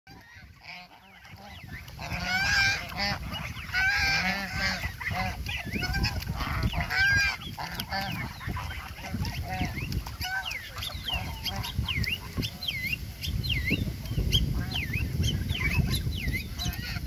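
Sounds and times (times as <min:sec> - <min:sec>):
geese honking: 0:00.1 - 0:17.0.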